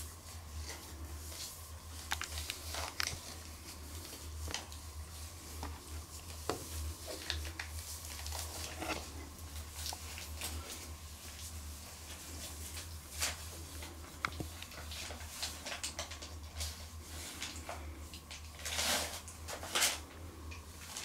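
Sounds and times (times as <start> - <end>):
puppies rustling in paper: 0.0 - 21.0
steady low hum: 0.0 - 21.0.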